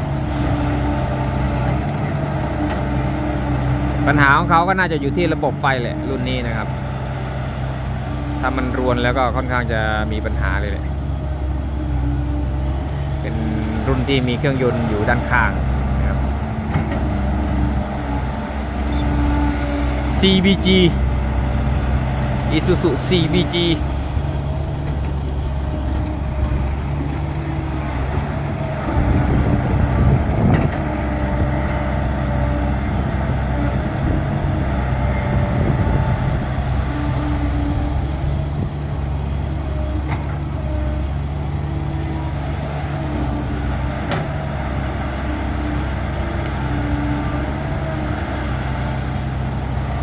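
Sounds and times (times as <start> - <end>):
heavy diesel engines running: 0.0 - 50.0.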